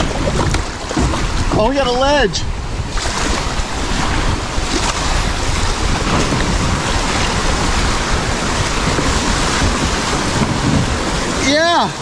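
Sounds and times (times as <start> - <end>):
rushing white water: 0.0 - 12.0.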